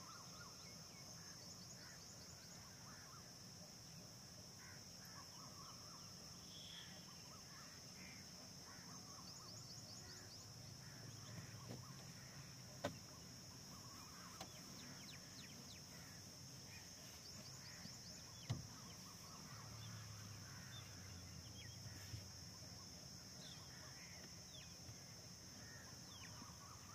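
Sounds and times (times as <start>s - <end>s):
distant bird calls: 0.0s - 26.9s.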